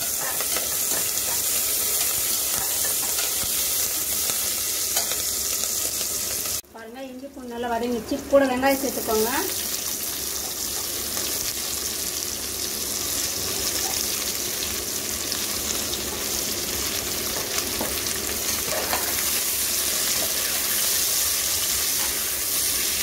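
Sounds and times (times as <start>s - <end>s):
onions sizzling in oil: 0.0s - 6.6s, 8.2s - 23.0s.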